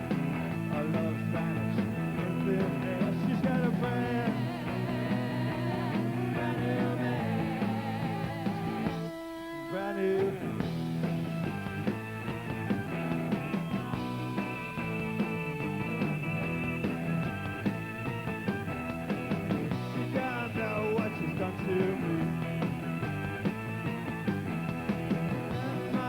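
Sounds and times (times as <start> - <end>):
garage rock band playing: 0.0 - 26.0.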